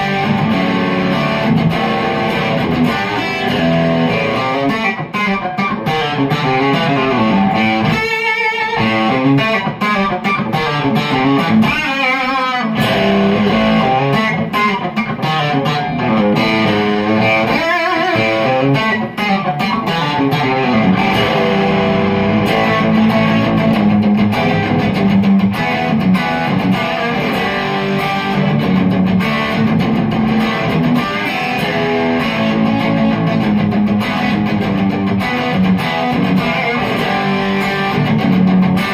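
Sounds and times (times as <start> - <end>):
electric guitar country lead lines: 0.0 - 38.9.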